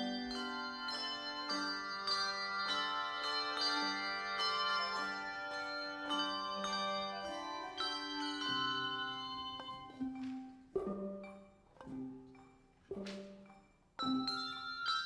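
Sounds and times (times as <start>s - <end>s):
bell-like instrumental music: 0.0s - 15.0s.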